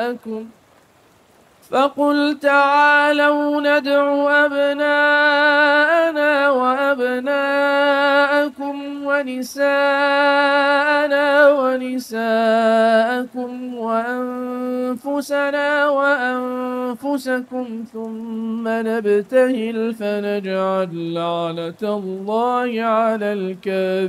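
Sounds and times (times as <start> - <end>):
man chanting unaccompanied: 0.0 - 0.6, 1.6 - 24.0.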